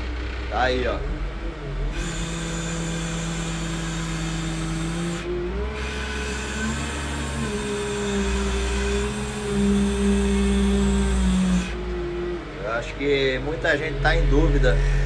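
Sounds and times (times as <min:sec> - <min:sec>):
loader engine running loud: 0:00.0 - 0:15.0.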